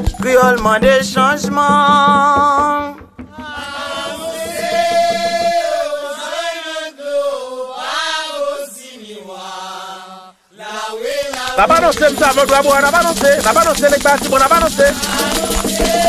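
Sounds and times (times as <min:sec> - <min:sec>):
person chanting: 0:00.0 - 0:07.6, 0:08.4 - 0:16.0.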